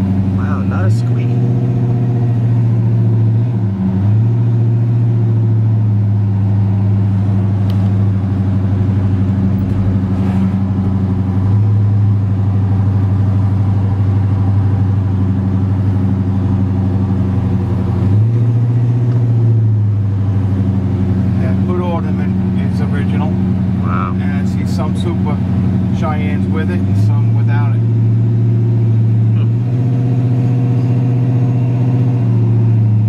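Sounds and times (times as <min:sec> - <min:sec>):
car engine drone: 0:00.0 - 0:33.0.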